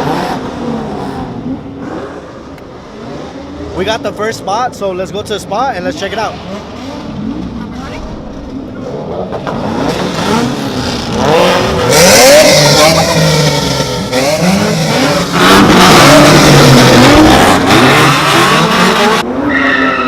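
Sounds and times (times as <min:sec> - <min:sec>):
car engine revving: 0:00.0 - 0:04.5, 0:05.4 - 0:20.0.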